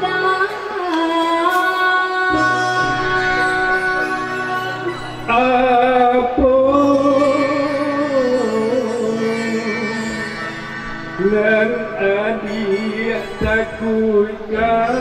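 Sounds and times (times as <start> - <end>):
melody of long wavering notes: 0.0 - 15.0.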